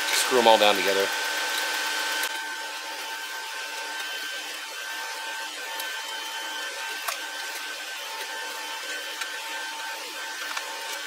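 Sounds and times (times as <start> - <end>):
whining machine hum: 0.0 - 11.0.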